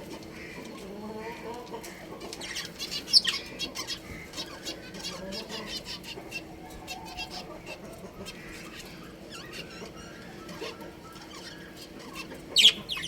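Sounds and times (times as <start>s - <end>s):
budgerigars chirping: 2.4s - 13.0s.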